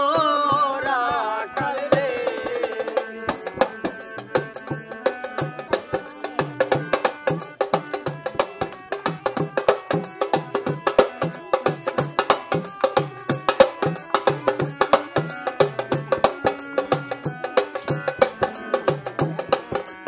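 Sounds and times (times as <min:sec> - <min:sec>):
folk music with percussion: 0:00.0 - 0:20.0.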